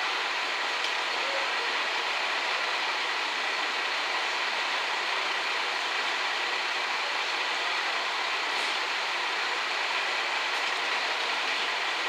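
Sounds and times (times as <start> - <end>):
diesel train running slowly: 0.0 - 12.0.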